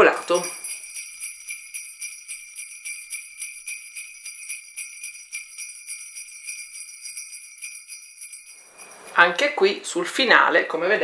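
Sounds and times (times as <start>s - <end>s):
sleigh bells jingling: 0.0s - 9.8s.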